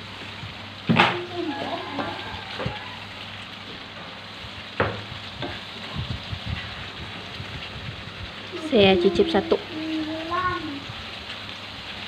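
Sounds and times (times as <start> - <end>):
sauce sizzling in a wok: 0.0 - 12.0.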